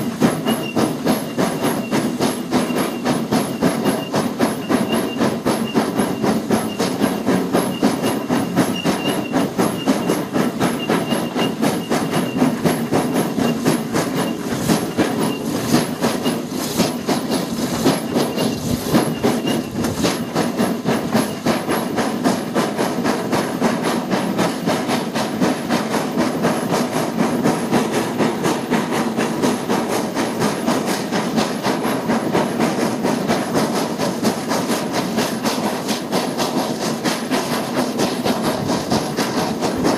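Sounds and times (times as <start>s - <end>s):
steam hissing: 0.0s - 39.9s
steam locomotive exhaust chuffs: 0.0s - 39.9s.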